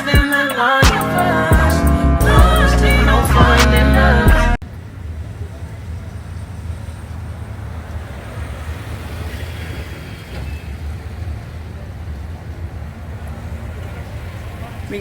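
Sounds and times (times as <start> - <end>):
vehicle rumble in motion: 1.8 - 15.0.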